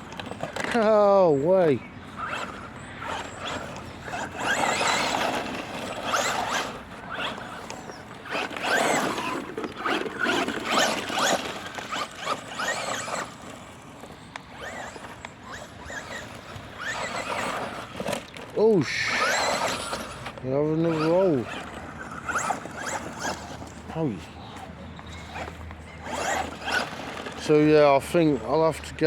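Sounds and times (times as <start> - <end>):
electric motor whining: 0.0 - 24.3, 25.0 - 28.4.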